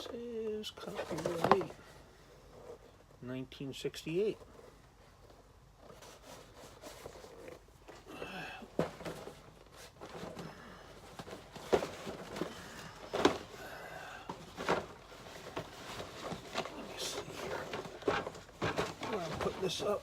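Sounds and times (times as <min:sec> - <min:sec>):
packaging rustling: 0:00.8 - 0:03.1, 0:04.4 - 0:20.0.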